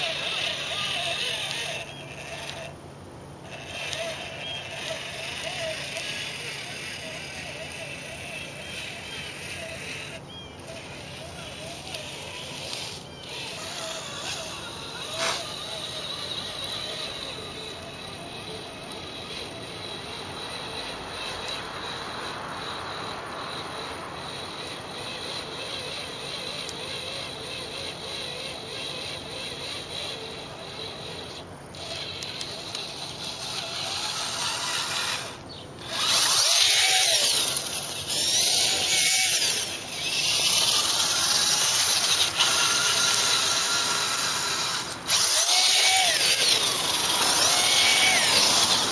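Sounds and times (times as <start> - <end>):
electric motor and gears whining: 0.0 - 48.9.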